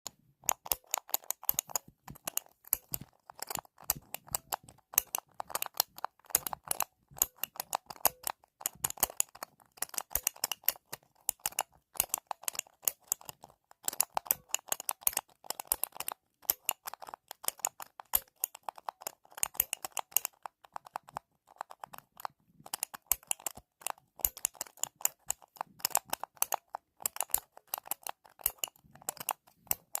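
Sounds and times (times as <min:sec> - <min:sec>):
computer keyboard typing: 0:00.1 - 0:30.0.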